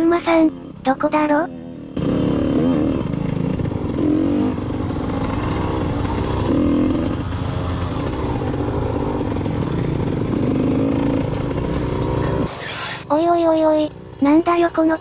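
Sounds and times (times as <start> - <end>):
dirt bike engine revving: 0.0 - 14.9.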